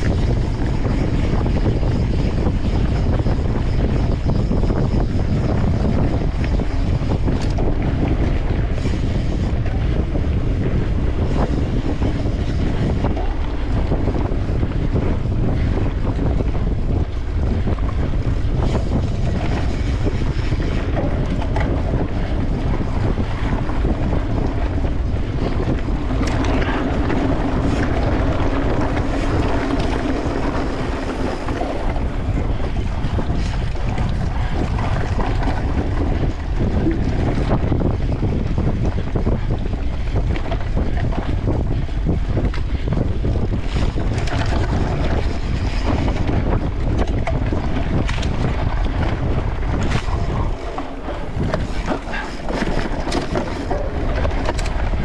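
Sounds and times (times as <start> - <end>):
bike clicks and rattles: 0.0 - 55.0
wind buffeting microphone: 0.0 - 55.0.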